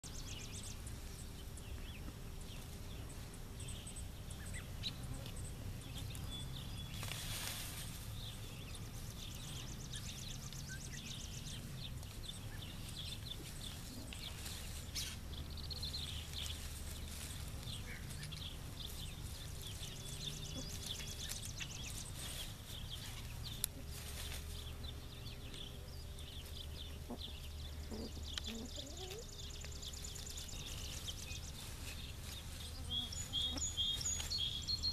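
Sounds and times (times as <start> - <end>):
rustle of leaves: 0.0 - 34.9
small birds chirping: 0.0 - 34.9.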